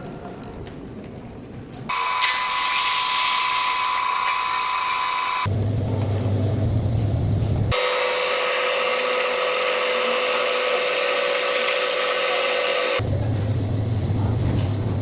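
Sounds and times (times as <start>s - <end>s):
workshop machinery running: 1.8s - 15.0s.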